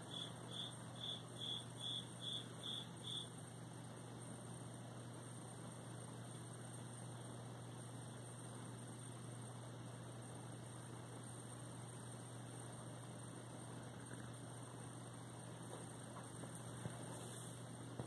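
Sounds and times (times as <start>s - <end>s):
faint low hum with hiss: 0.0s - 18.0s.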